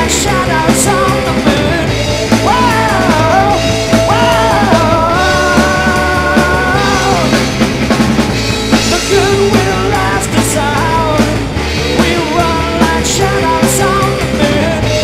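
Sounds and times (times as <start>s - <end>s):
man singing loudly: 0.0s - 7.4s, 8.9s - 15.0s
drums: 0.0s - 15.0s
electric guitars: 0.0s - 15.0s.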